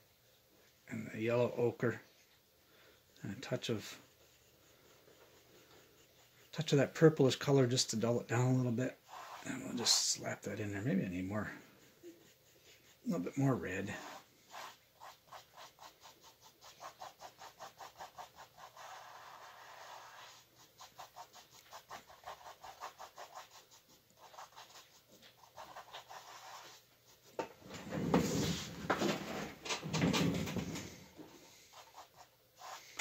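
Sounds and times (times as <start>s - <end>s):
paintbrush scrubbing on canvas: 3.1s - 29.6s, 30.7s - 33.0s.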